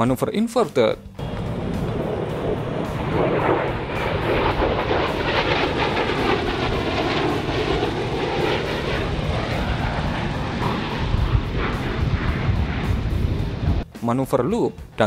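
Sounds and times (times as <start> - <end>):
whining jet tones: 1.2 - 13.9
jet engines rushing: 1.2 - 14.5.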